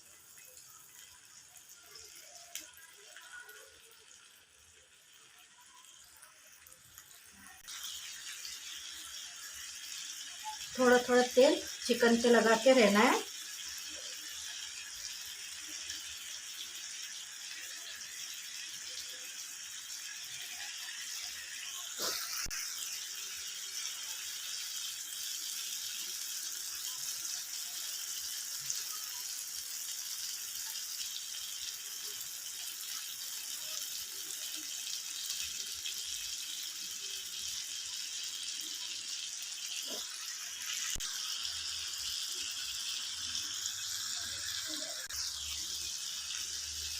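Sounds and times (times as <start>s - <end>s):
food sizzling in a frying pan: 0.0s - 46.9s.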